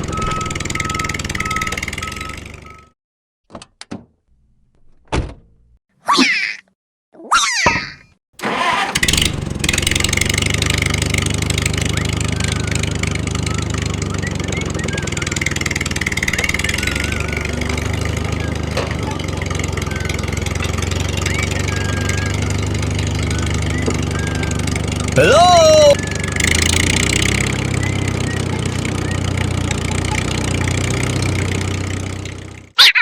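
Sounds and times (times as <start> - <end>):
small engine running steadily: 0.0 - 2.9, 8.4 - 32.8.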